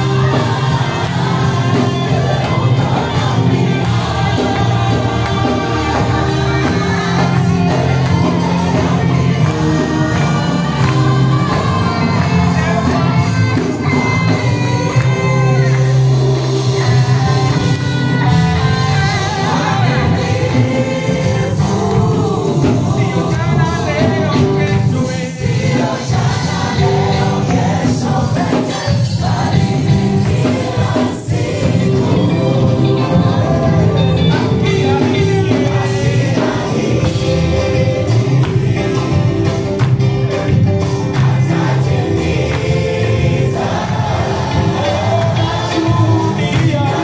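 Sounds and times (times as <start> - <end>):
singer: 0.0 - 39.9, 41.0 - 47.0
backing choir singing: 0.0 - 47.0
band with bass and guitar: 0.0 - 47.0.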